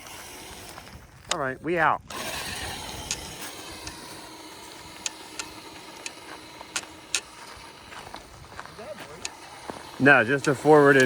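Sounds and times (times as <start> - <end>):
sharp clicks: 0.0 - 8.3, 9.1 - 11.0
electric motor humming: 0.0 - 11.0.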